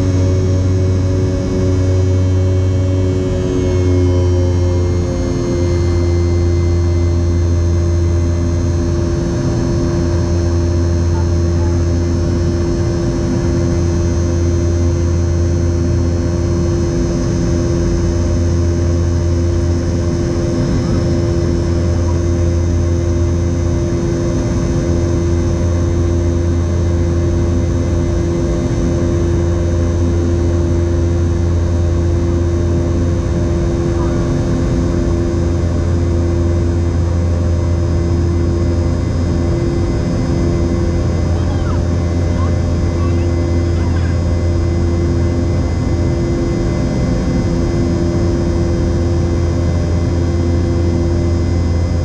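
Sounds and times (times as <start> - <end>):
airplane cabin engine drone: 0.0 - 52.0.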